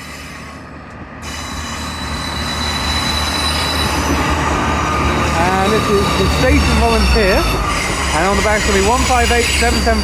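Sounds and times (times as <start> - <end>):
diesel train engines under load: 0.0 - 10.0
high wheel squeal: 1.2 - 10.0.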